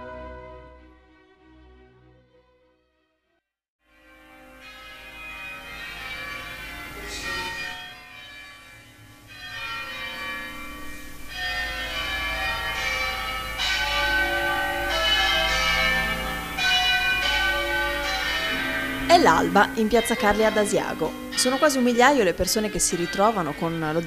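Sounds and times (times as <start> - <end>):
church bells ringing: 0.0 - 1.2, 3.9 - 24.0.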